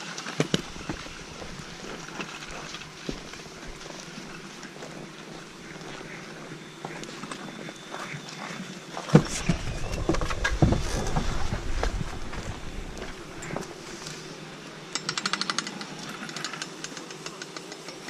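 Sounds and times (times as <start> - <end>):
skis sliding over snow: 0.0 - 14.6.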